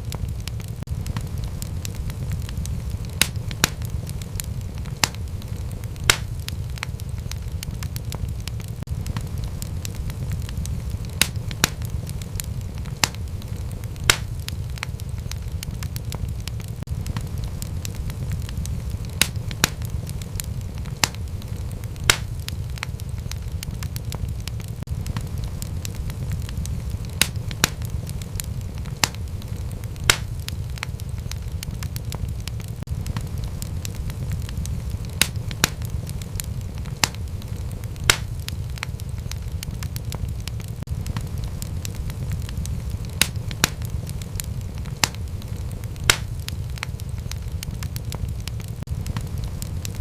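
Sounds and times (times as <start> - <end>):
fire flames rumbling: 0.0 - 50.0
fire popping: 0.0 - 50.0
wood fire crackling: 0.0 - 50.0.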